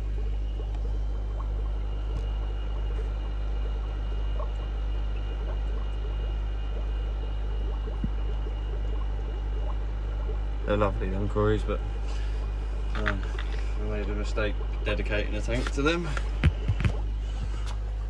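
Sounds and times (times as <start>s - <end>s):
equipment humming: 0.0s - 18.0s
water trickling and bubbling: 0.0s - 18.0s.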